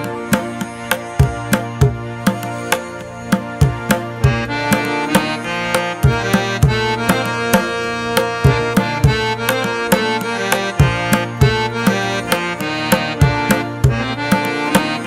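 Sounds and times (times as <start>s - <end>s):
accordion: 0.0s - 15.0s
steady drum beat: 0.0s - 15.0s.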